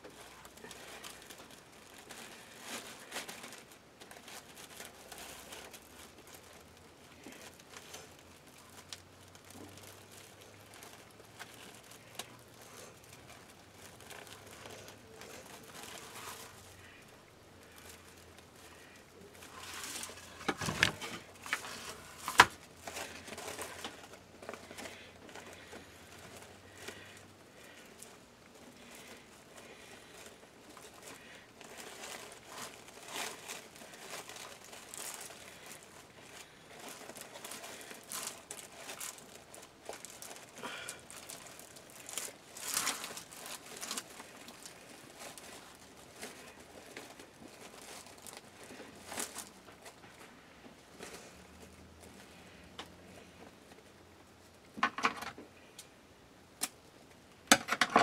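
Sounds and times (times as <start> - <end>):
mesh and ribbon rustling: 0.0 - 55.9.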